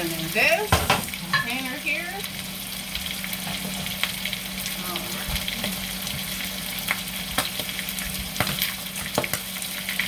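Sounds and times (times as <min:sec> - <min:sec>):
fries sizzling in hot oil: 0:00.0 - 0:10.0.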